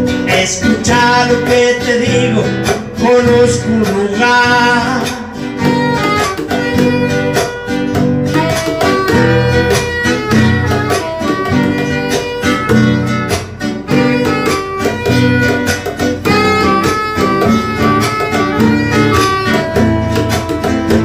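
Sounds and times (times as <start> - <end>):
plucked guitar: 0.0 - 21.0
steady beat: 0.0 - 21.0.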